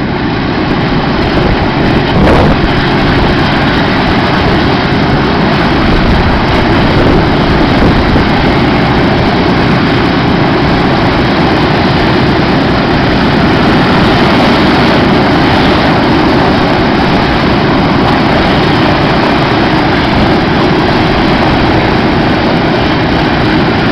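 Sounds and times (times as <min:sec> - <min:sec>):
propeller noise: 0:00.0 - 0:23.9
radial aircraft engines droning: 0:00.0 - 0:23.9.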